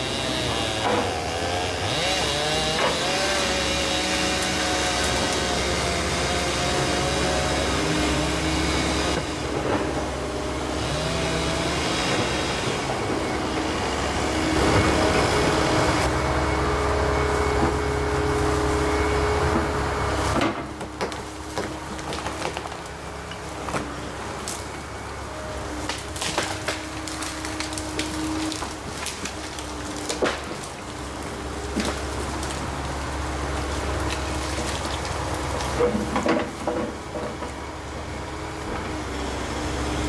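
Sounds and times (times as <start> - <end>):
excavator diesel engine whining: 0.0 - 40.0.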